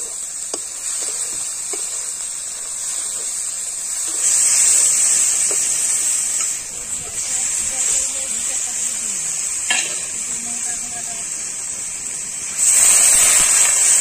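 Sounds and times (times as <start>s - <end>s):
spice paste sizzling in oil: 0.0s - 14.0s.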